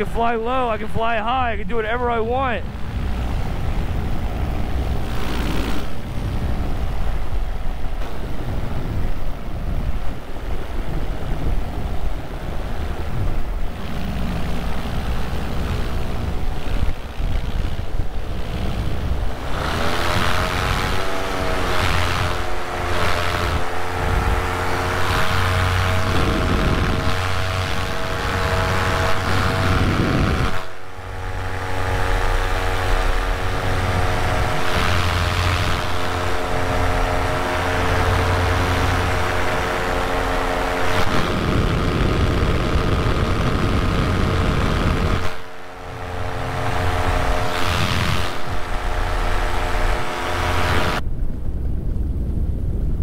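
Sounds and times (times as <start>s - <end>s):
paramotor engine drone: 0.0s - 52.1s
wind rushing on microphone: 0.0s - 53.0s.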